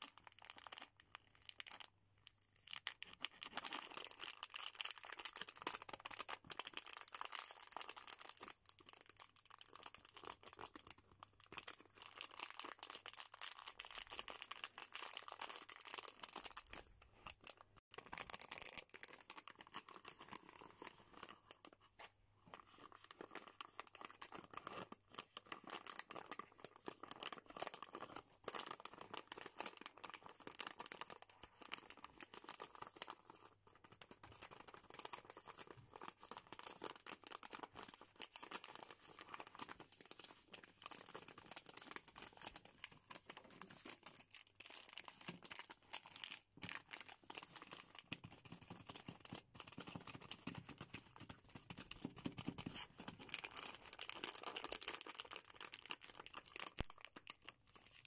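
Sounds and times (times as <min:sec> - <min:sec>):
fingers crinkling plastic packaging: 0:00.0 - 0:58.0.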